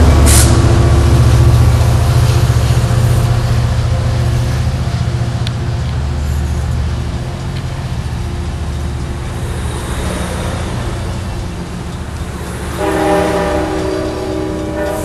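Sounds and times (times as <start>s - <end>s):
train cars rolling past: 0.0s - 15.0s.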